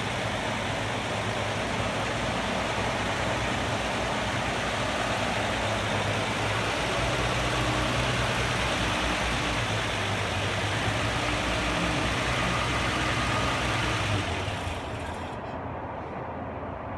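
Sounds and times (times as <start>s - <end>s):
truck engine idling: 0.0s - 15.6s.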